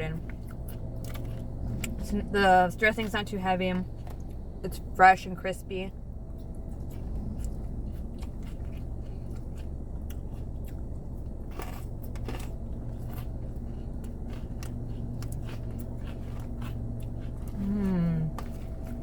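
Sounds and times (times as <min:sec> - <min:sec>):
chewing crunchy salad: 0:00.0 - 0:19.0
low hum: 0:00.0 - 0:19.0.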